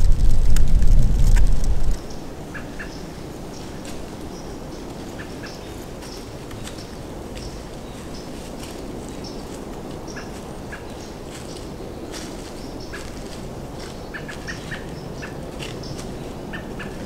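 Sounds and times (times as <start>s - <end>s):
steady low background rush: 0.0s - 17.0s
small birds chirping: 1.4s - 17.0s.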